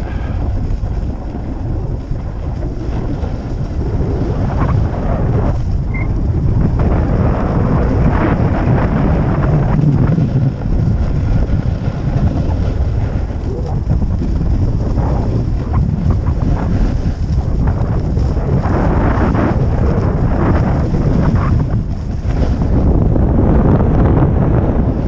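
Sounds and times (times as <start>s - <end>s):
skis scraping on snow: 0.0s - 23.6s
wind buffeting microphone: 0.0s - 25.0s.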